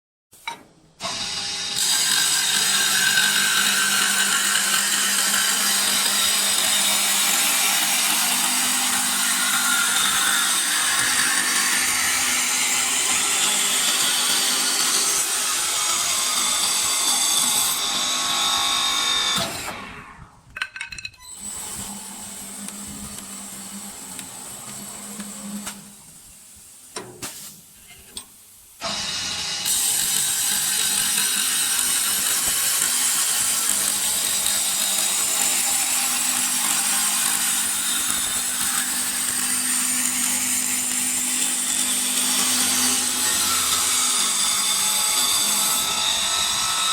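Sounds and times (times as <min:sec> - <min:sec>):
wood lathe cutting: 0:01.0 - 0:20.2, 0:21.3 - 0:25.6, 0:28.8 - 0:46.9.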